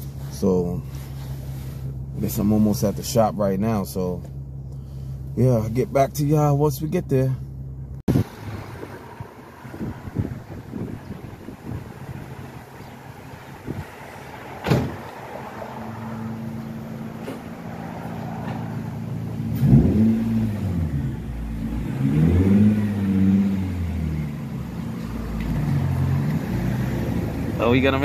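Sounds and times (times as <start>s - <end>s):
car engine revving: 0.9s - 28.0s.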